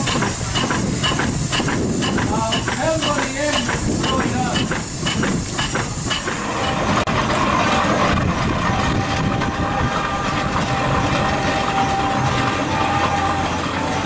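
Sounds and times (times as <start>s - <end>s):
steam traction engine running: 0.0s - 14.0s.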